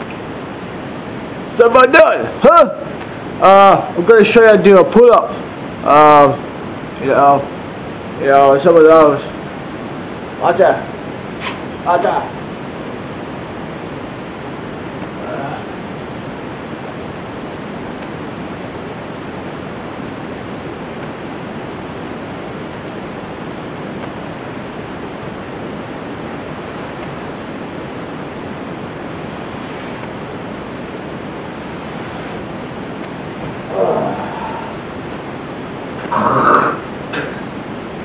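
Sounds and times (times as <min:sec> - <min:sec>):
room noise hiss: 0:00.0 - 0:38.0.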